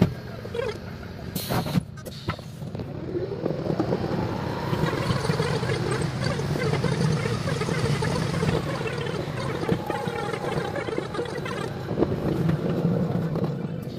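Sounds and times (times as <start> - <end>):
sped-up train running noise: 0.0 - 13.9.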